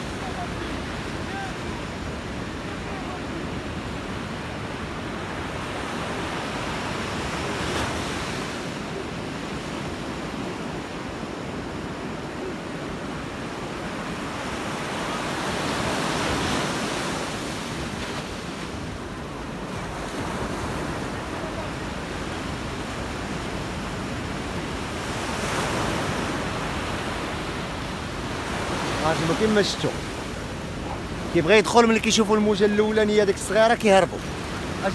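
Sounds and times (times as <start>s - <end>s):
sea waves washing onto shore: 0.0s - 34.9s.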